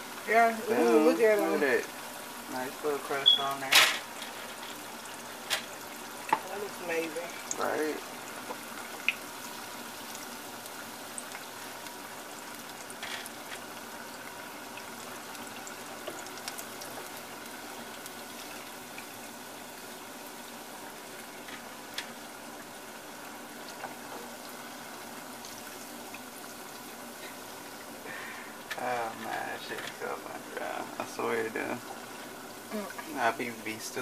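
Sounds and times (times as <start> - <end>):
food deep-frying in oil: 0.0 - 34.0.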